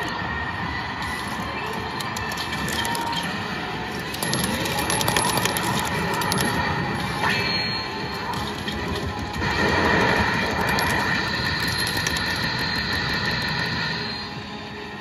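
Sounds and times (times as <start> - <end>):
arcade game music: 0.0 - 15.0
busy arcade din: 0.0 - 15.0.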